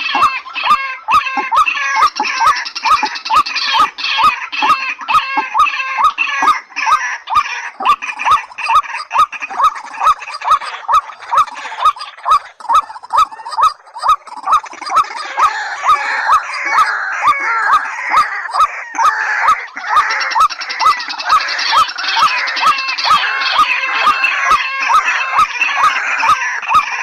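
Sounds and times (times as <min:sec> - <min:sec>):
background bird calling: 0:00.0 - 0:27.0
waterhen call notes: 0:00.0 - 0:27.0.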